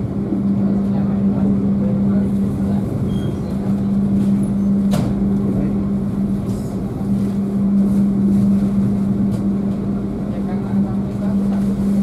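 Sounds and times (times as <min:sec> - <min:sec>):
constant hum: 0:00.0 - 0:12.0
train coach low rumble: 0:00.0 - 0:12.0.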